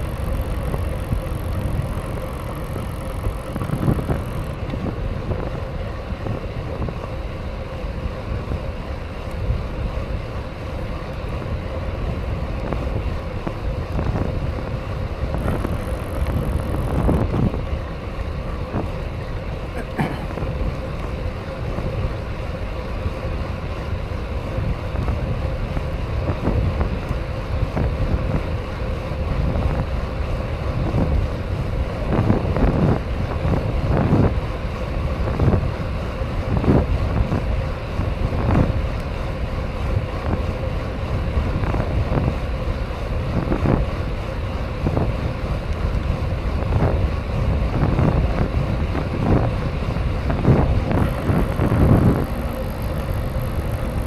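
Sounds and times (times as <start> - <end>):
wind buffeting microphone: 0.0 - 10.5, 11.2 - 22.2, 23.3 - 54.0
bike tyre rumble: 0.0 - 54.0.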